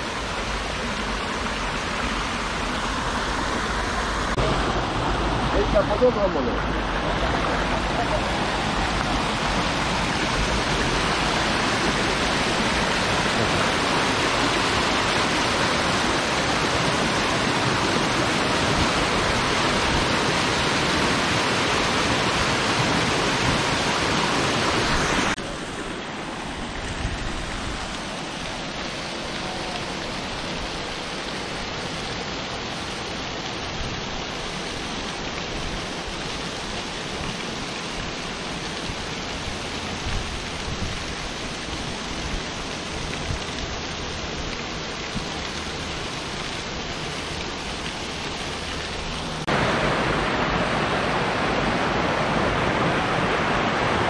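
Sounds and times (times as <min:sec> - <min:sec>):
dull waterfall rush: 0:00.0 - 0:54.0
stream rushing over rocks: 0:00.0 - 0:54.0.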